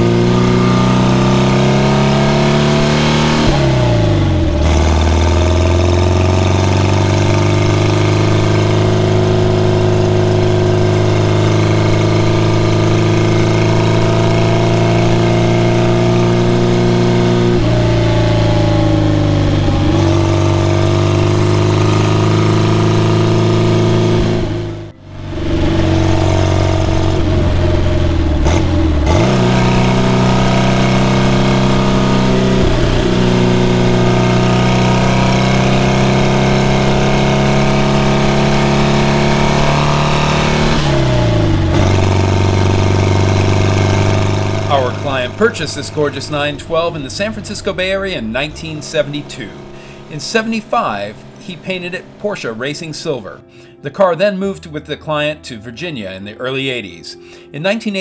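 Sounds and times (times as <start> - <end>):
car engine running: 0.0 - 53.8.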